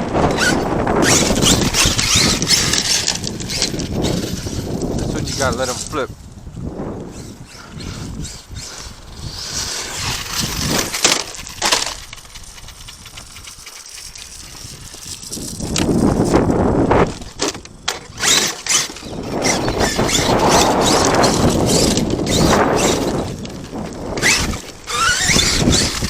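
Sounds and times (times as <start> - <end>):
toy truck tyres on gravel: 0.0 - 26.0.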